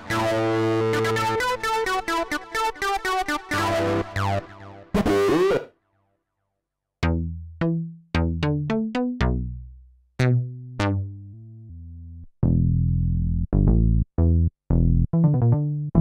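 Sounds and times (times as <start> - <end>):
synthesizer bass notes: 0.0 - 5.7, 7.0 - 16.0.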